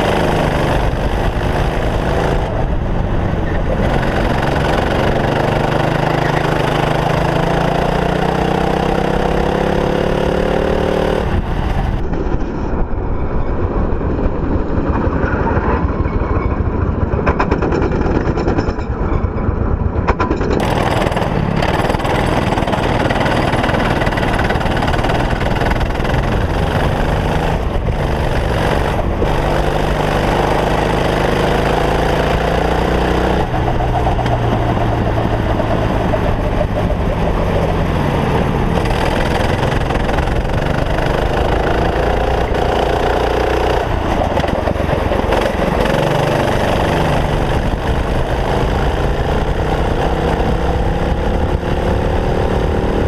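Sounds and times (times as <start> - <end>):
kart engine racing: 0.0 - 12.7, 19.7 - 53.0.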